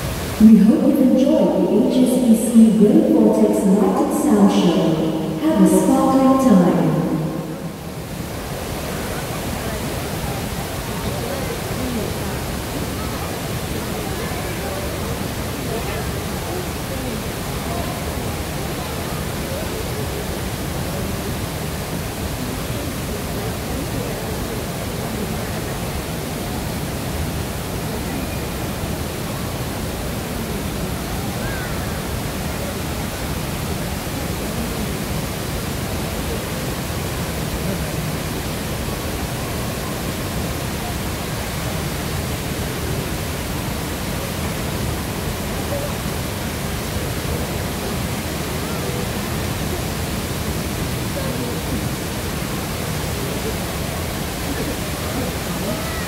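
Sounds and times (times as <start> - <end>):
faint voices: 0.0 - 56.0
indoor waterfall rushing: 0.0 - 56.0.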